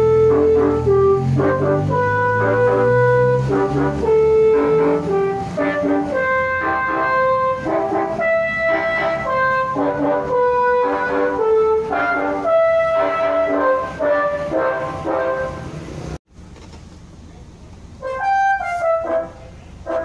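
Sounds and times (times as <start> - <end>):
air horn playing a tune: 0.0 - 16.0, 18.0 - 20.0.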